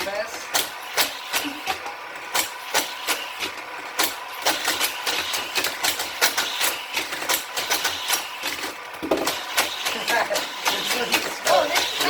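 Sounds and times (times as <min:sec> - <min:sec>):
toy track boosters whirring: 0:00.0 - 0:12.0
toy cars clattering on plastic track: 0:00.3 - 0:12.0.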